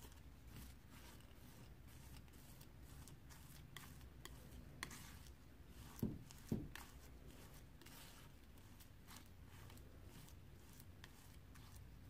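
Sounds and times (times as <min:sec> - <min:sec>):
palette knife scraping paint: 0:00.0 - 0:12.0.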